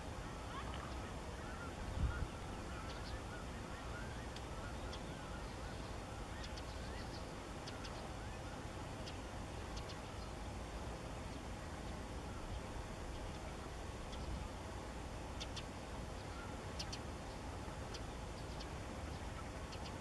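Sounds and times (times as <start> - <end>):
gulls calling: 0.0 - 20.0.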